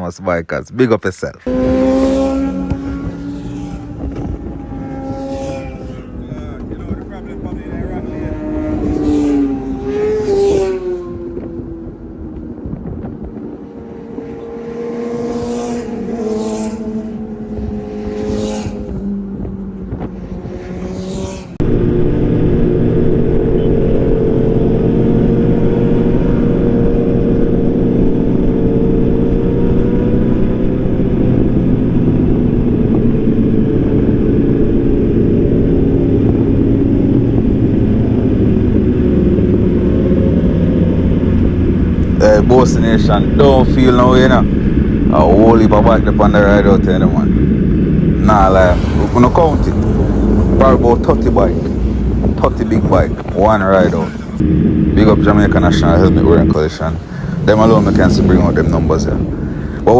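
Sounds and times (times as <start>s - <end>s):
motorcycle engine drone: 1.4s - 59.9s
engine rev blips: 1.5s - 59.9s.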